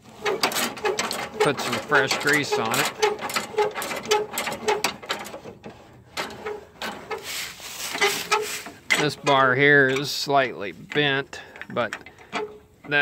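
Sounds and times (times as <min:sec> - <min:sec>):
snowblower chute squeaking: 0:00.0 - 0:13.0.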